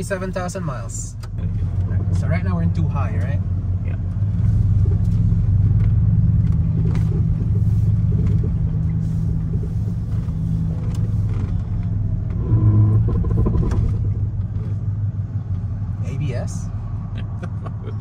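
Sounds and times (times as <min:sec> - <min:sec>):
engine and road rumble in cab: 0:00.0 - 0:18.0.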